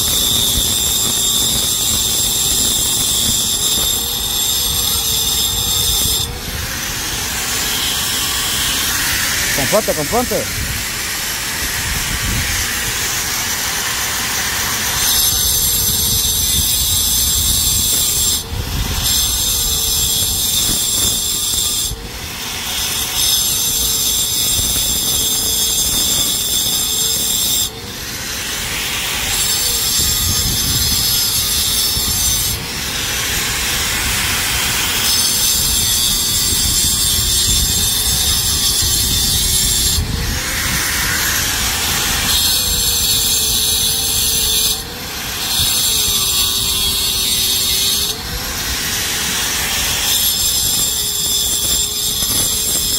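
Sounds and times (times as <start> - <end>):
angle grinder grinding: 0.0 - 52.9.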